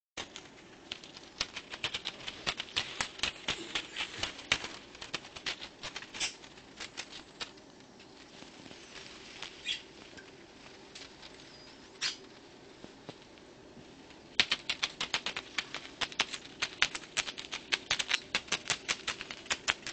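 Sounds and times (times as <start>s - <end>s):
bird preening rustles and clicks: 0.2s - 19.9s.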